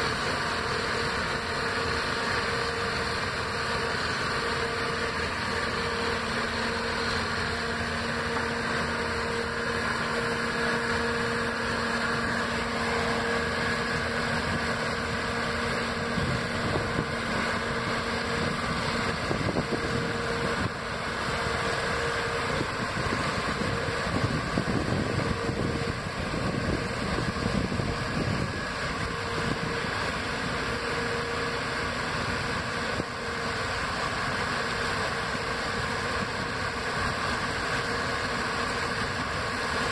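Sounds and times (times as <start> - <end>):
harvester engine drone with whine: 0.0 - 39.9
tractor low rumble: 0.0 - 39.9.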